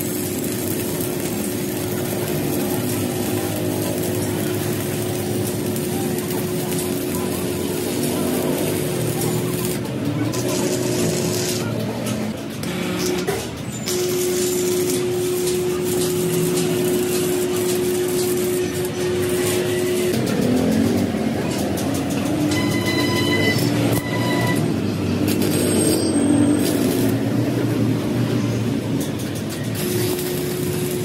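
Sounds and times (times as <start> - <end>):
welding arc buzz and crackle: 0.0 - 31.0.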